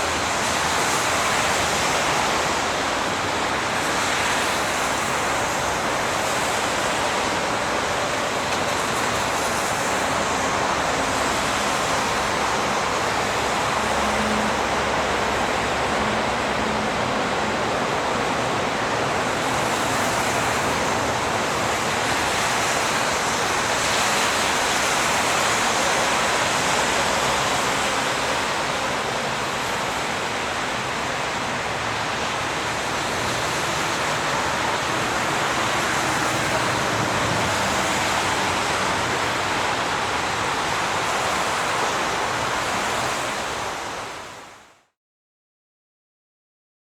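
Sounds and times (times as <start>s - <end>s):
highway traffic: 0.0s - 44.8s.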